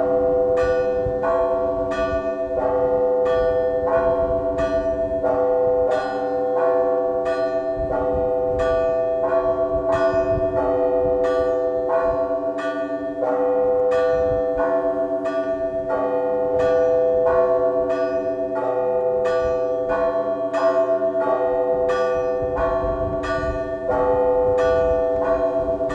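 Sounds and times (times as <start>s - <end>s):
large bells ringing: 0.0s - 25.9s.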